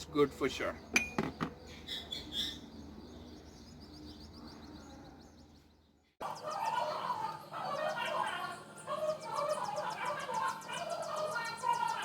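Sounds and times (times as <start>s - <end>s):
faint bird chirping: 0.2s - 12.0s.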